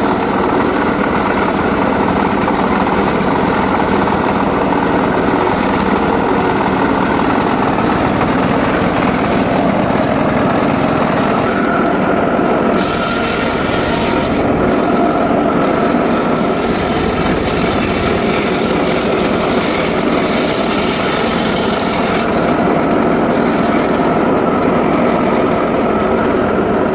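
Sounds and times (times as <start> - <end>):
circular saw cutting wood: 0.0 - 26.5
high-pitched blade whine: 0.0 - 26.9.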